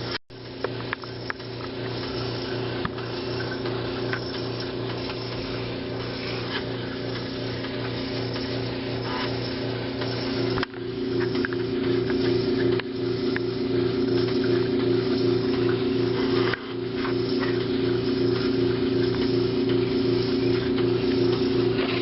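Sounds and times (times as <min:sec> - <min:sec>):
steady electric hum: 0:00.0 - 0:22.0.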